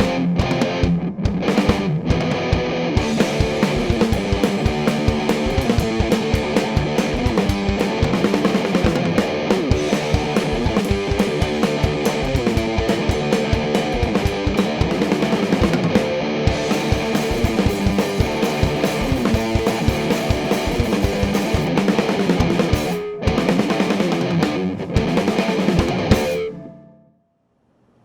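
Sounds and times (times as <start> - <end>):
drum kit: 0.0 - 26.6
distorted electric guitar riff: 0.0 - 26.7.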